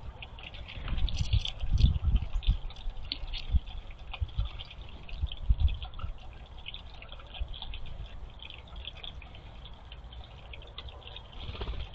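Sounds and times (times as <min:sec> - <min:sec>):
water dripping and trickling: 0:00.0 - 0:11.9.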